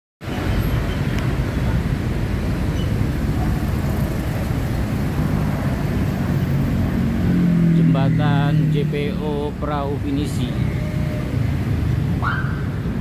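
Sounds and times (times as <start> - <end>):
city road traffic rumble: 0.2 - 13.0.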